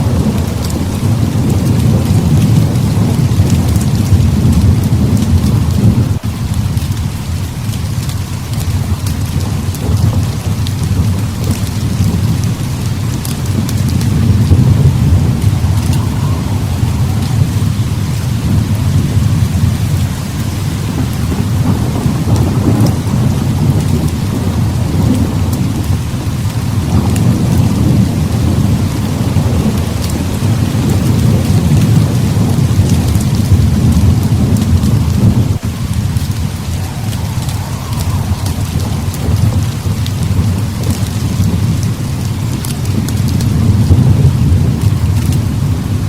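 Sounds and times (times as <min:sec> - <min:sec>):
deep thunder rumble: 0:00.0 - 0:46.0
heavy rain falling: 0:00.0 - 0:46.0.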